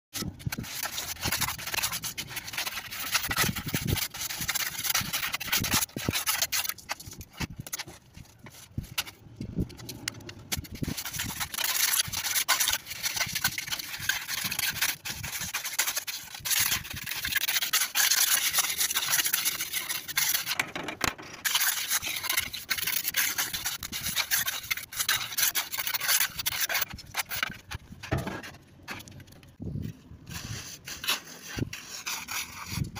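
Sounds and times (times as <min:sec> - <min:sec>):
trowel scraping wet concrete: 0:00.2 - 0:28.6, 0:30.2 - 0:32.9.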